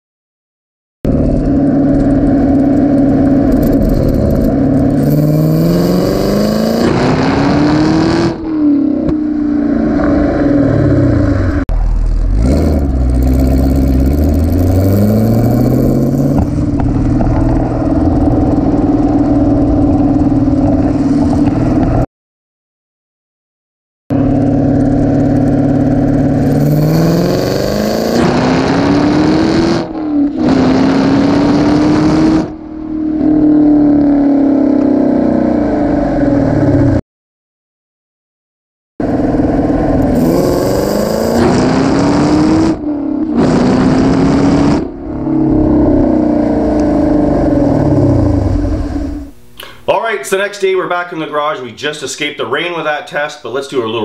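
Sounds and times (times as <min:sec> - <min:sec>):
car engine revving at full throttle: 0:01.1 - 0:22.0, 0:24.1 - 0:37.0, 0:39.0 - 0:49.5.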